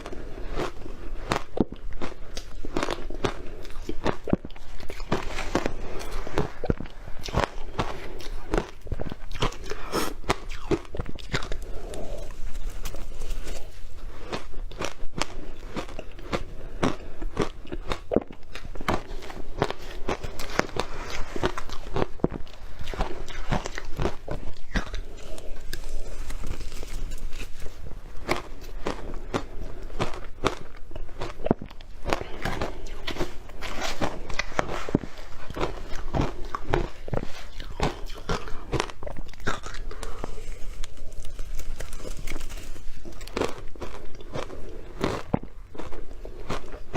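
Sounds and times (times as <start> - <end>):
person chewing crunchy food: 0.0 - 46.9.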